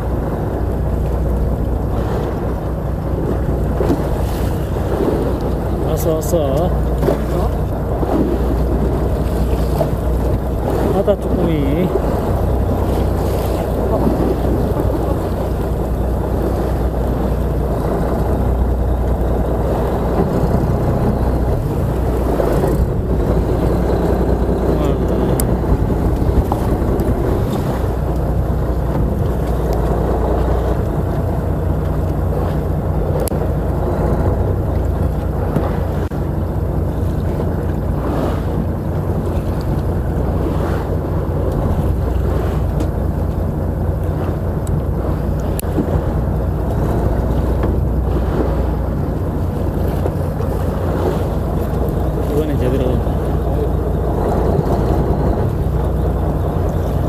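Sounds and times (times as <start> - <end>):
boat engine droning: 0.0 - 57.0
waves: 0.0 - 57.0
wind on microphone: 0.0 - 57.0.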